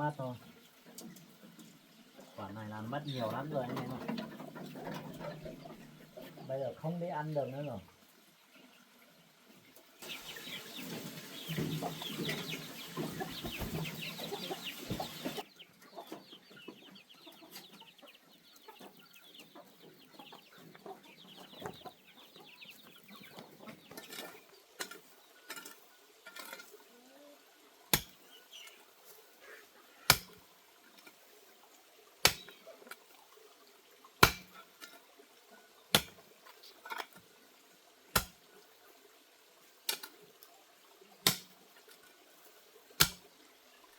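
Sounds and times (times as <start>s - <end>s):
chickens clucking: 0.0s - 37.2s.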